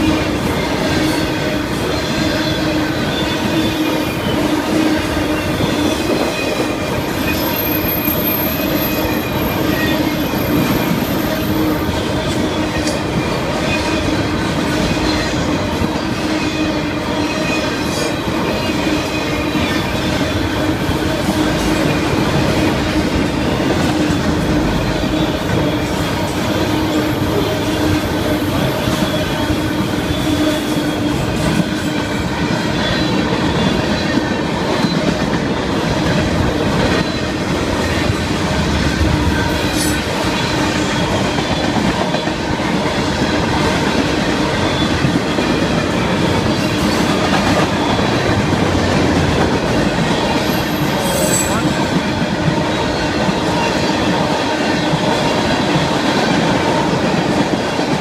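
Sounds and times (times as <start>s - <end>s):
freight wheels rumbling on rail: 0.0s - 58.0s.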